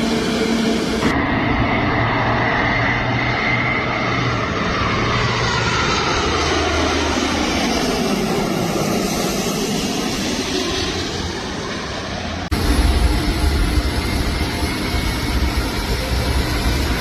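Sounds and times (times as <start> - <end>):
propeller airplane engine: 0.0 - 17.0.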